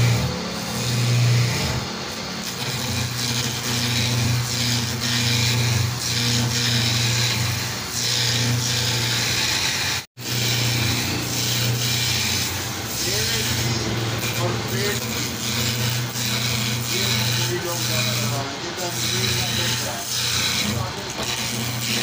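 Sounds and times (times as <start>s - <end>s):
wood lathe motor hum: 0.0s - 22.0s.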